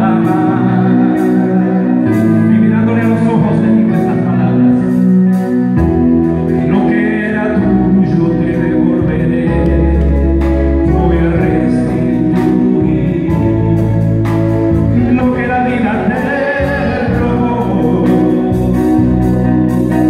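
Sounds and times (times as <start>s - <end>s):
man singing into microphone: 0.0s - 5.2s, 6.4s - 20.0s
deep bass line: 0.0s - 20.0s
electronic keyboard chords: 0.0s - 20.0s.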